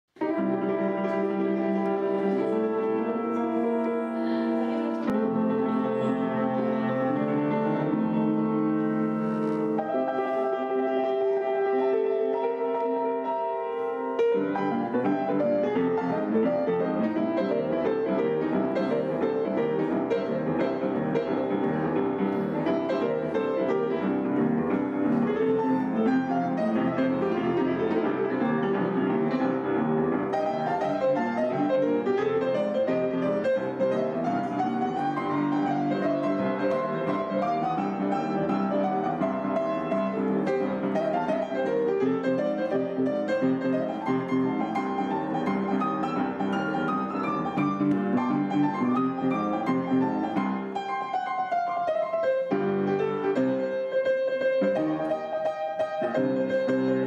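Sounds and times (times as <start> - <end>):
background piano music: 0.1 - 57.0.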